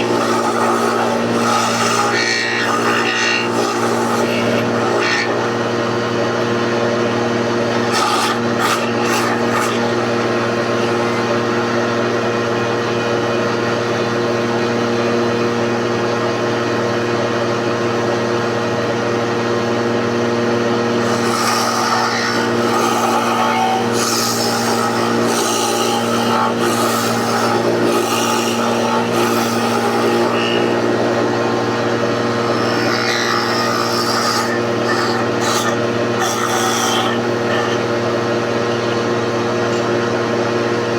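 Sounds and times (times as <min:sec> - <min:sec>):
electric planer cutting wood: 0:00.0 - 0:40.9.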